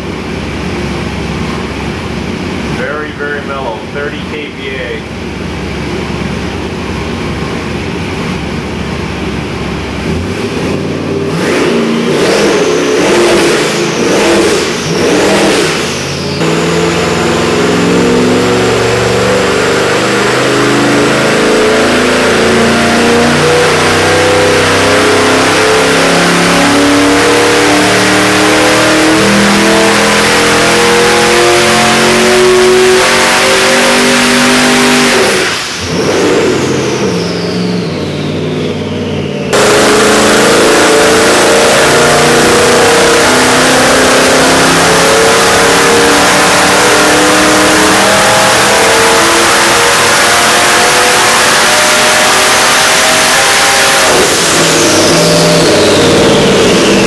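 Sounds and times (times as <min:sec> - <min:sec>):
engine idling and revving: 0:00.0 - 0:57.0.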